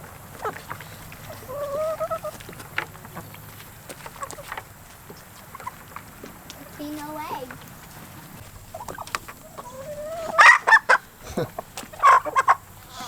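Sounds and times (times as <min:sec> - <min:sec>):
chicken drawn-out call: 0:00.0 - 0:13.0
chickens clucking: 0:00.0 - 0:13.0.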